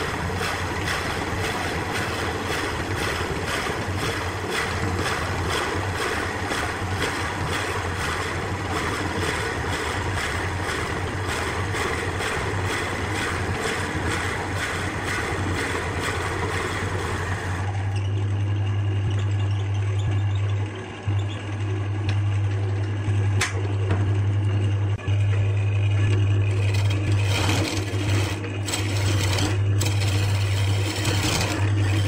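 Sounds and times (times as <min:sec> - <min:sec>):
tool cutting spinning wood: 0:00.0 - 0:22.3, 0:24.9 - 0:32.0
lathe motor hum: 0:00.0 - 0:32.0.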